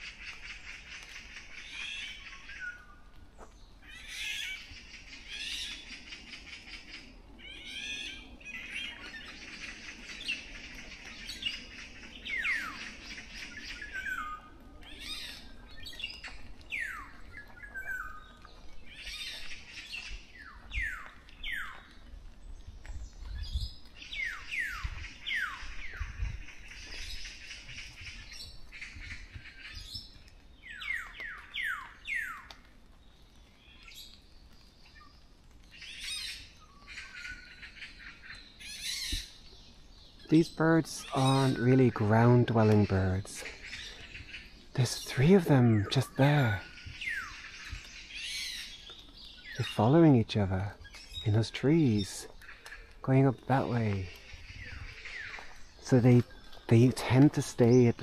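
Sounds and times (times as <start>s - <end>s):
birds calling: 0.0s - 58.0s.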